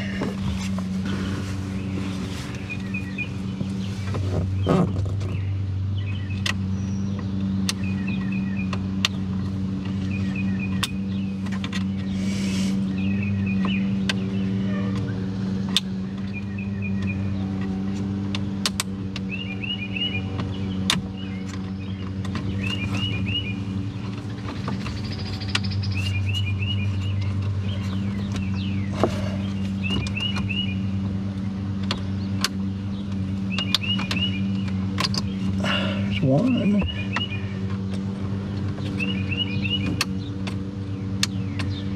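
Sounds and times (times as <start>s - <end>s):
low motor hum: 0.0s - 41.9s.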